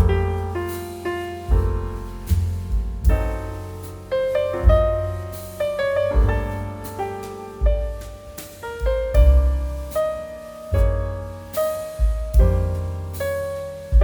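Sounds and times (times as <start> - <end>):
gentle solo piano music: 0.0 - 14.0.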